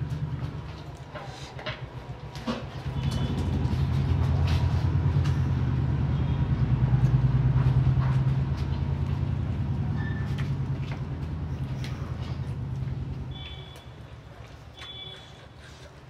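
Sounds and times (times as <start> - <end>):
heavy vehicle engine rumble: 0.0 - 13.5.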